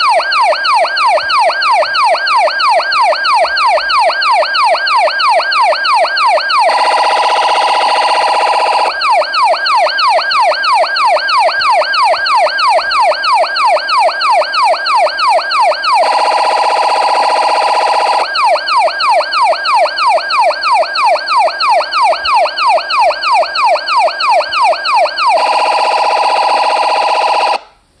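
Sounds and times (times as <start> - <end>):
police siren ringtone: 0.0 - 27.6.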